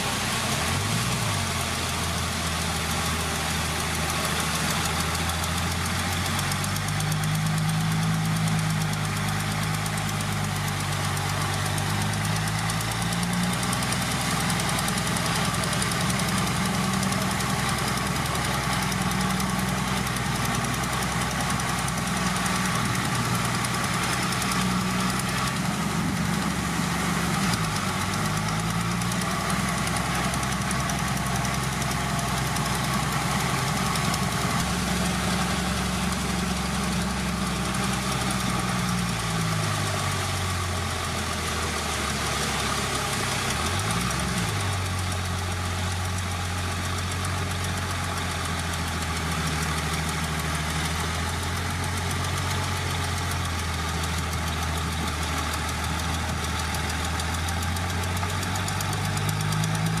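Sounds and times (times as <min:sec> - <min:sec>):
heavy diesel engine under load: 0:00.0 - 1:00.0.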